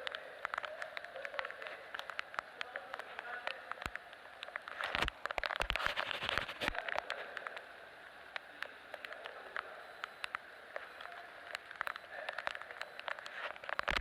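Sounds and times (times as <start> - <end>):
raindrops ticking nearby: 0.0 - 14.0
steady rain hiss: 0.0 - 14.0.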